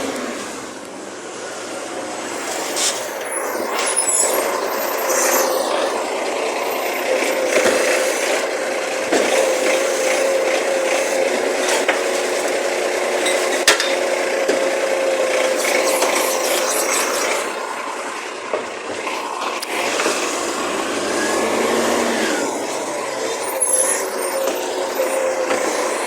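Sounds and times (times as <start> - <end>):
garbage truck engine whining: 0.0 - 26.0.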